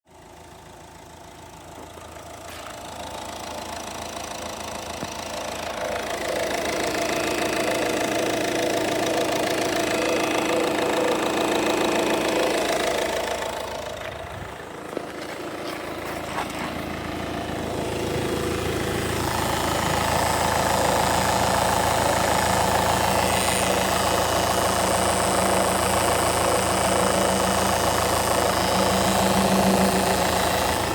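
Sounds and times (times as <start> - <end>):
diesel engine idling: 0.1 - 30.9.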